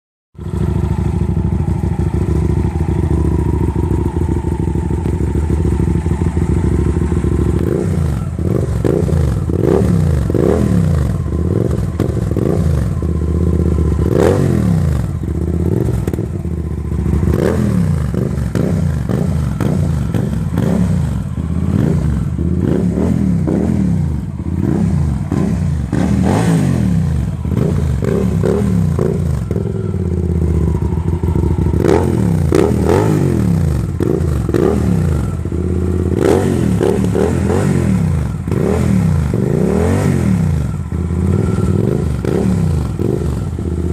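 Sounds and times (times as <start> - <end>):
motorcycle engine revving: 0.4 - 43.9.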